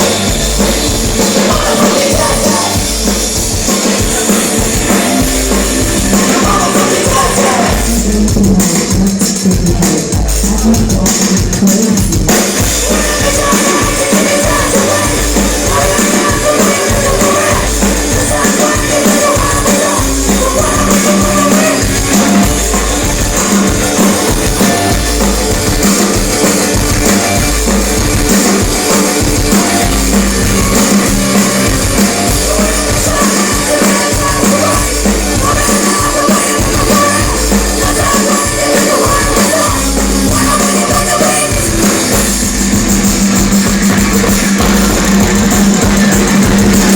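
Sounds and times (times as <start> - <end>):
pounding drum kit: 0.0 - 46.9
punk rock band playing: 0.0 - 46.9
rock vocals: 0.0 - 46.9.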